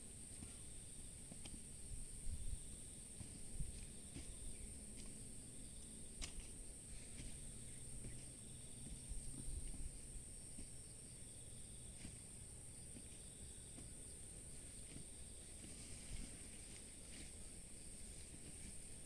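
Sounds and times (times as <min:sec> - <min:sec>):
insects droning high-pitched: 0:00.0 - 0:19.0
lower insect call: 0:00.0 - 0:19.0.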